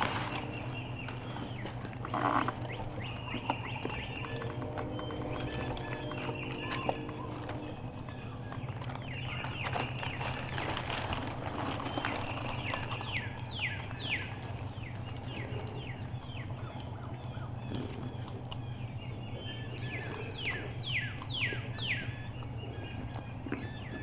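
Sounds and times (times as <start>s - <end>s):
low hum: 0.0s - 24.0s
songbirds singing: 0.0s - 24.0s.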